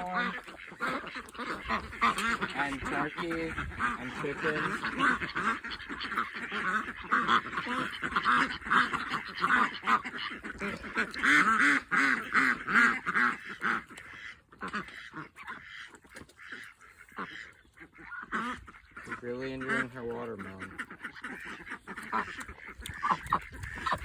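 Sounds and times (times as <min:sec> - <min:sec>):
farm birds calling: 0:00.0 - 0:24.0.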